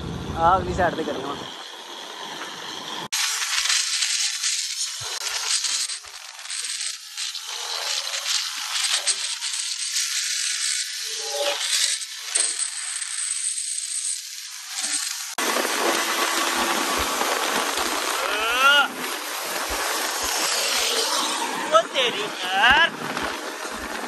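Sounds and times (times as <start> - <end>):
road noise hiss: 0.0 - 12.7, 14.3 - 24.0.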